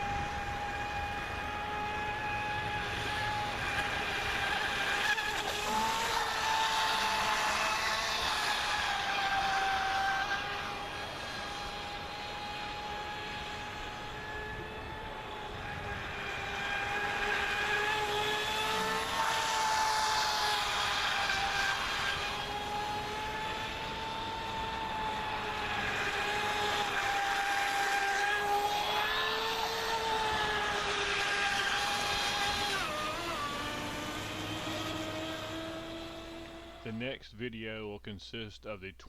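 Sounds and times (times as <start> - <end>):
electric motor high whine: 0.0 - 36.8.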